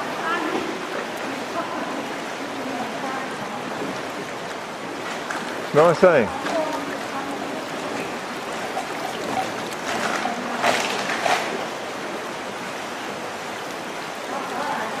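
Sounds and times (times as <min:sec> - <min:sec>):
short water splashes: 0:00.0 - 0:15.0
stream water running: 0:00.0 - 0:15.0.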